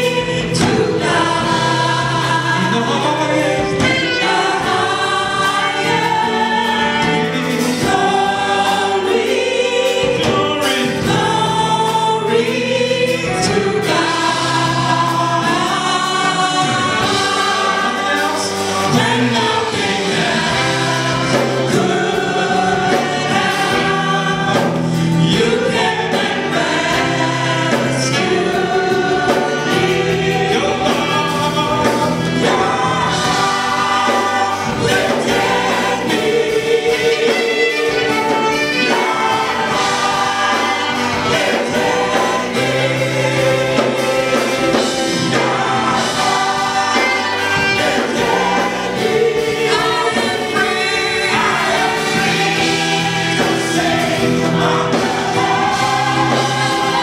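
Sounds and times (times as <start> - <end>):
gospel choir singing: 0.0 - 57.0.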